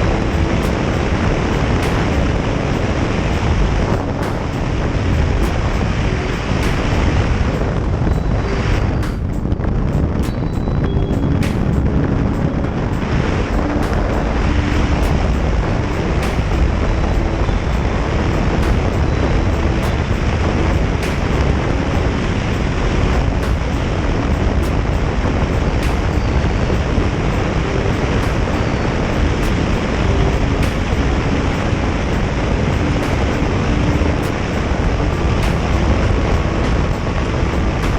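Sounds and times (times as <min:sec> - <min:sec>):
motorcycle engine drone: 0:00.0 - 0:37.9
wind on microphone: 0:00.0 - 0:37.9.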